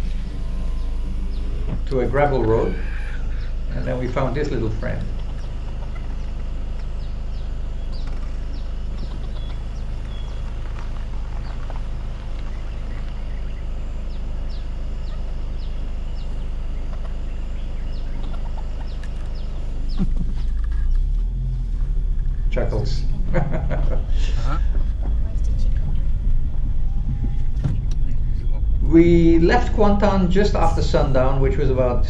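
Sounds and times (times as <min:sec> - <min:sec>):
car engine humming: 0:00.0 - 0:32.0.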